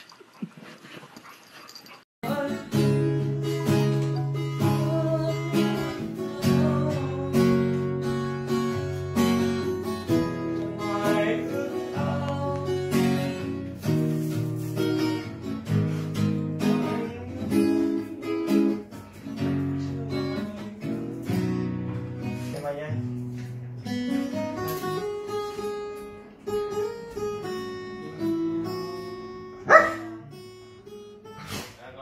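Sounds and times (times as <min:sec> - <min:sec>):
strummed acoustic guitar: 0:02.2 - 0:32.0.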